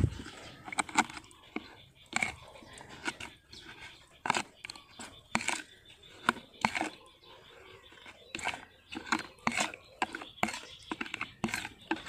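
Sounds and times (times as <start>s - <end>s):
metal spoon scraping plastic basin: 0.0s - 12.0s.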